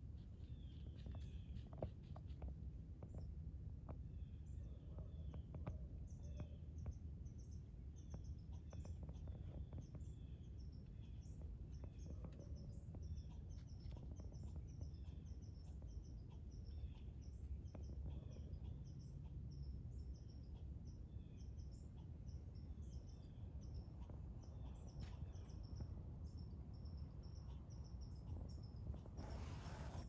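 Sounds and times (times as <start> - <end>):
low outdoor rumble: 0.0 - 29.2
small birds chirping: 0.0 - 30.0.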